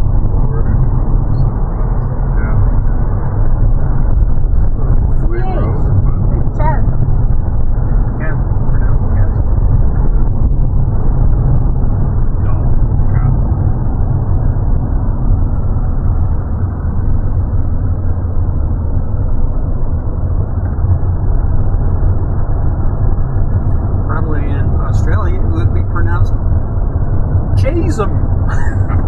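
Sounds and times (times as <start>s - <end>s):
car interior road and engine rumble: 0.0s - 29.0s.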